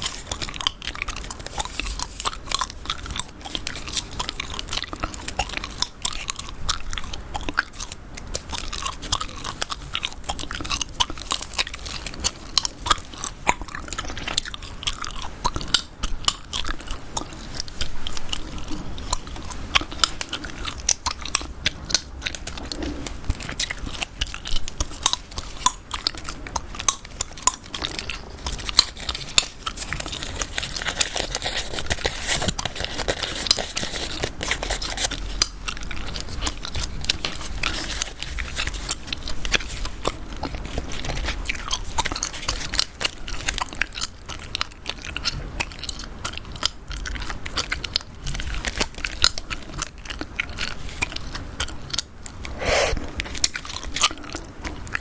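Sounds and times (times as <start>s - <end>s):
chewing gum clicks and smacks: 0.0s - 52.6s.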